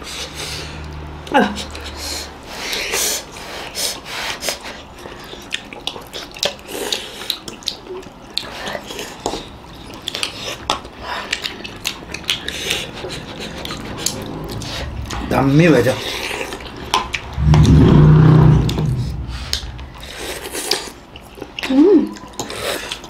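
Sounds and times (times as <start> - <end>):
chewing: 0.1 - 23.0.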